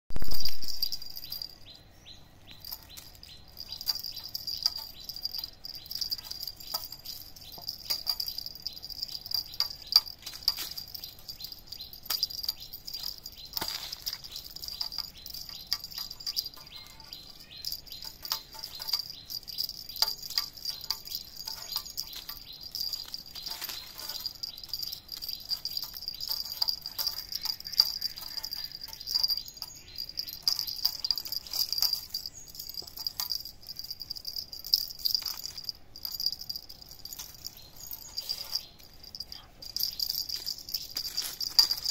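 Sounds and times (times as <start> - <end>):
high-pitched insect drone: 2.6 - 41.9.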